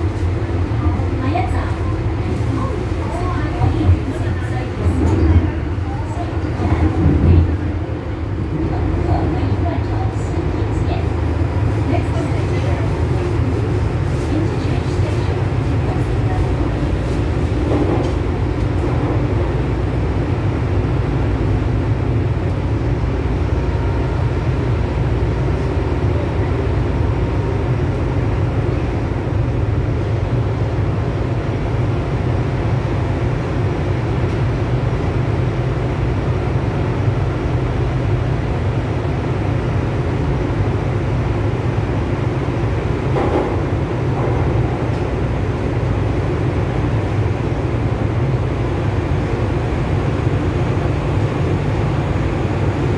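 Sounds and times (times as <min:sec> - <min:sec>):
train rumbling through tunnel: 0:00.0 - 0:52.9.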